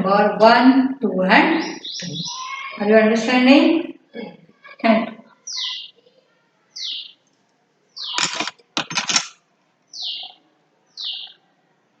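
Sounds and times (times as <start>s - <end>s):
bird chirping: 0.0s - 7.3s, 7.9s - 9.2s, 9.9s - 11.4s.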